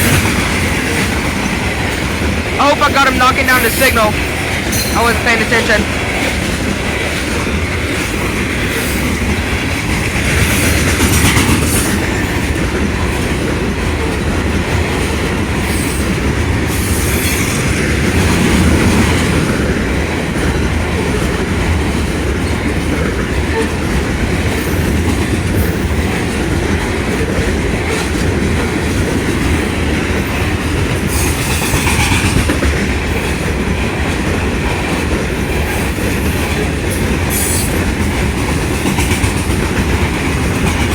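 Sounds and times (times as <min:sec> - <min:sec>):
freight train rumbling: 0:00.0 - 0:40.9
wheels clacking over rail joints: 0:06.0 - 0:40.9.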